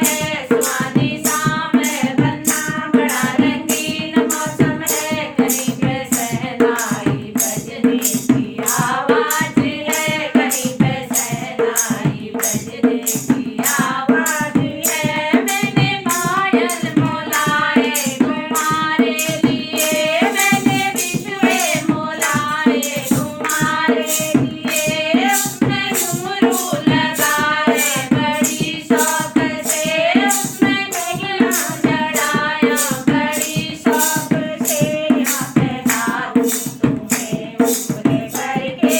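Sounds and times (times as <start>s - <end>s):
percussion beat: 0.0s - 38.9s
person singing folk song: 0.0s - 38.9s.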